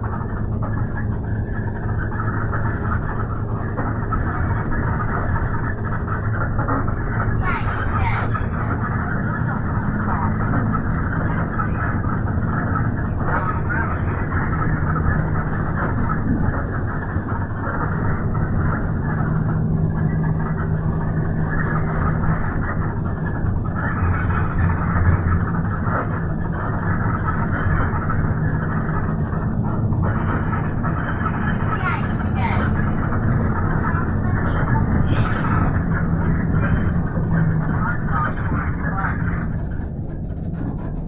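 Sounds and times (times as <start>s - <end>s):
vehicle interior rumble and hum: 0.0s - 41.0s.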